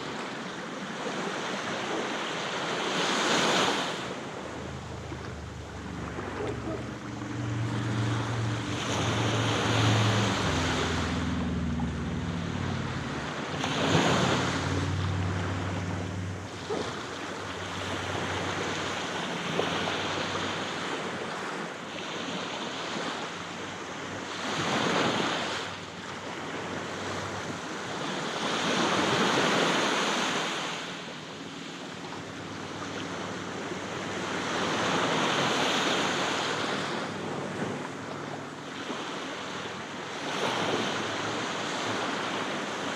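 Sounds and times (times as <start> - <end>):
low engine hum: 0.0 - 42.9
waves breaking on beach: 0.0 - 42.9.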